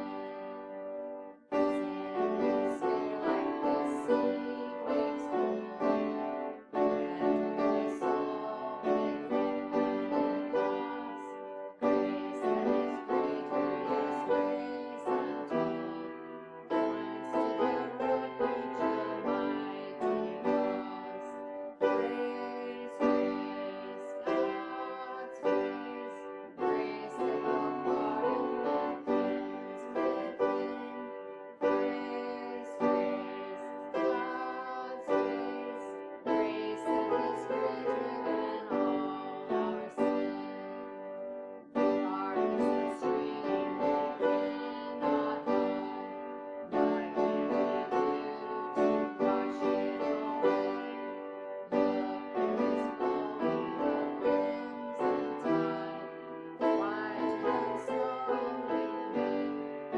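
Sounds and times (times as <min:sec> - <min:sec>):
slow piano chords: 0:00.0 - 0:59.9.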